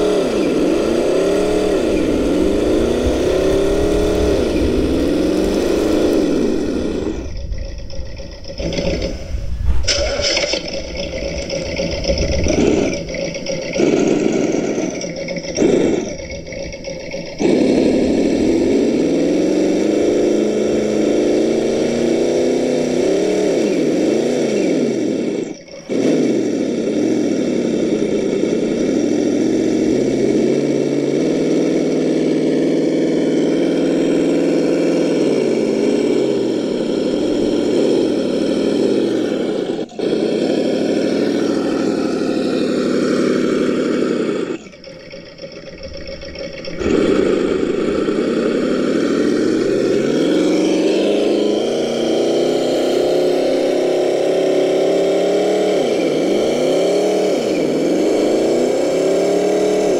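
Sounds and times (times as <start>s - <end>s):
simulated engine sound: 0.0s - 59.9s.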